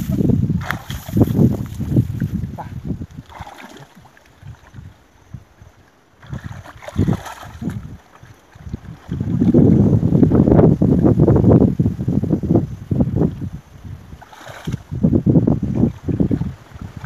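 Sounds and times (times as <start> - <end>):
muddy water sloshing and splashing: 0.0 - 10.2, 13.2 - 17.0.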